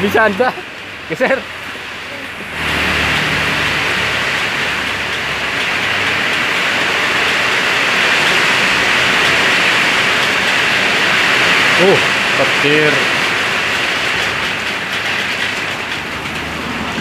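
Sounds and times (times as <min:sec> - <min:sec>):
heavy rain in strong wind: 0:00.0 - 0:17.0.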